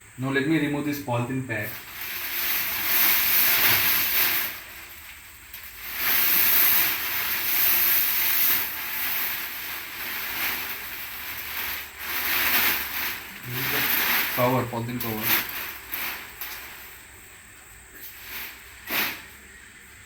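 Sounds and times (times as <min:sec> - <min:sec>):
plastic wrapping rustling and crinkling: 0:00.8 - 0:20.0.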